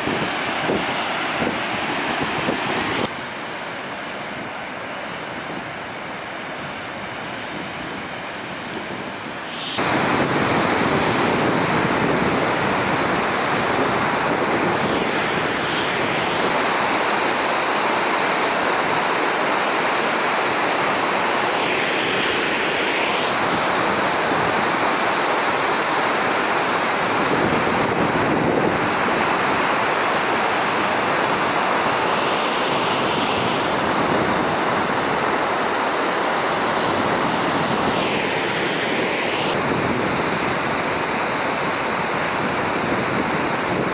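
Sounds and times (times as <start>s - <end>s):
waterfall roaring: 0.0s - 43.9s.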